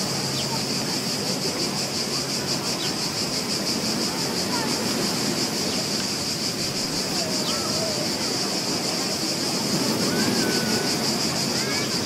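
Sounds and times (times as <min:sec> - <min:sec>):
surf washing: 0:00.0 - 0:12.0.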